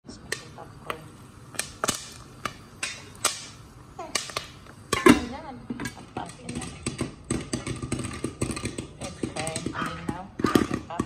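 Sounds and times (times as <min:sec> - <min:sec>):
popcorn popping in a pot: 0:00.0 - 0:11.0.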